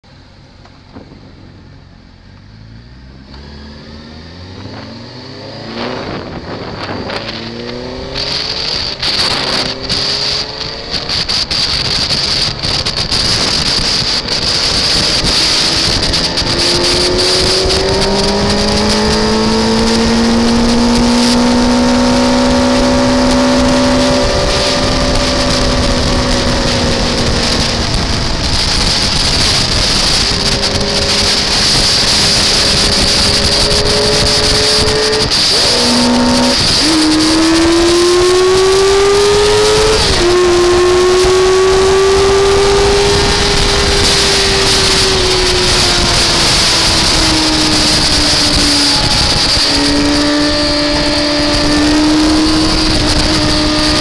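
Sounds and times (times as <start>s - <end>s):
wind and road noise: 0.0s - 54.0s
car engine accelerating: 0.6s - 54.0s.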